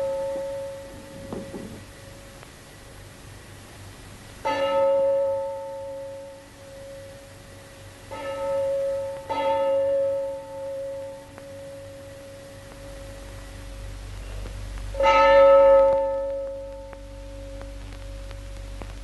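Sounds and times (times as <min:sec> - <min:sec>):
deep bell ringing: 0:00.0 - 0:02.2, 0:04.4 - 0:17.9.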